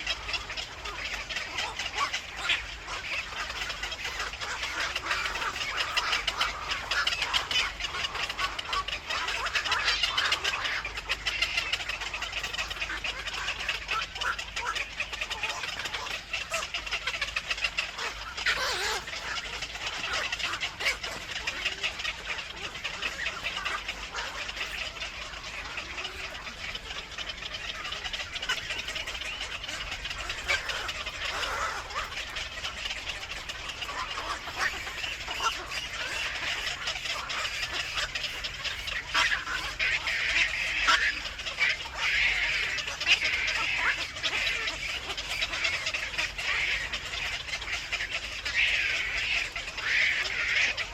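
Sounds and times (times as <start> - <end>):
birds chattering: 0.0 - 50.9.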